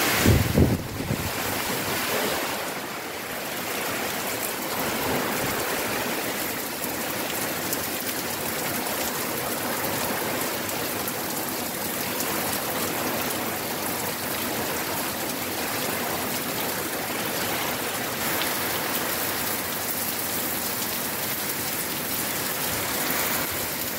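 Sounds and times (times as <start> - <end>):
heavy rain pouring: 0.0 - 23.9.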